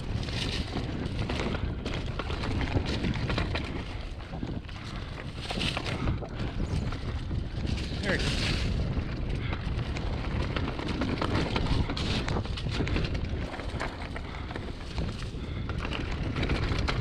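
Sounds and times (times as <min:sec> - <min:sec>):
tyres on dirt and leaves: 0:00.0 - 0:16.9
bike rattling over bumps: 0:00.0 - 0:17.0
wind on microphone: 0:00.0 - 0:17.0.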